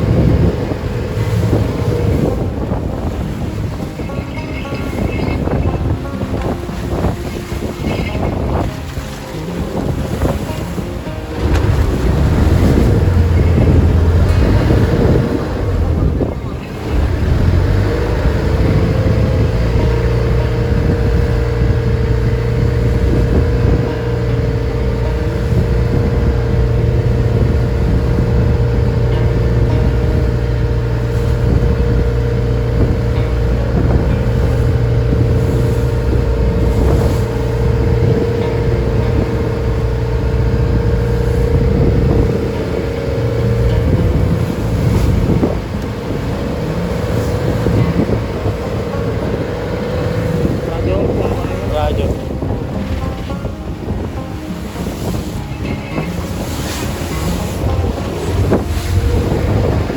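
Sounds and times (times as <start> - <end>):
boat engine running: 0.0 - 59.9
water noise: 0.0 - 59.9
wind noise: 0.0 - 59.9.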